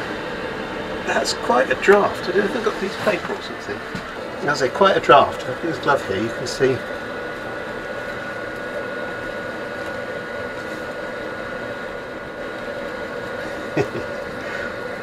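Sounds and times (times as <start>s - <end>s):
heater blower fan whirring: 0.0s - 15.0s.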